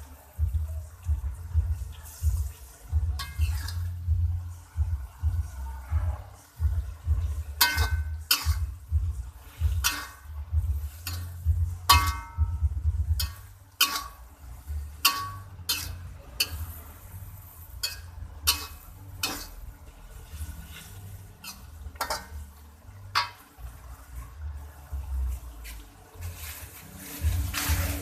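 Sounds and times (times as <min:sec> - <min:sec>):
utensil stirring food in a pan: 0:00.0 - 0:28.0.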